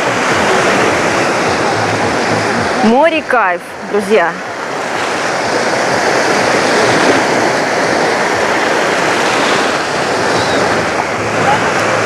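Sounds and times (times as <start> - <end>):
small waves washing on shore: 0.0 - 12.0.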